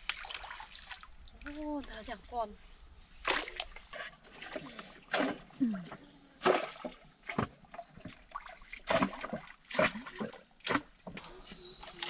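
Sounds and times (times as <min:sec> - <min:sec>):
sharp splashes: 0:00.0 - 0:02.1, 0:03.2 - 0:11.1
stream water splashing: 0:00.0 - 0:02.3, 0:03.0 - 0:12.0.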